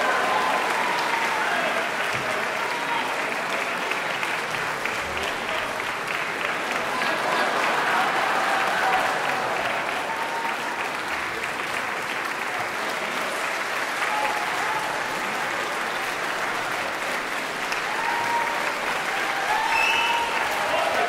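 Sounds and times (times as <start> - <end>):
large audience applauding: 0.0 - 21.0.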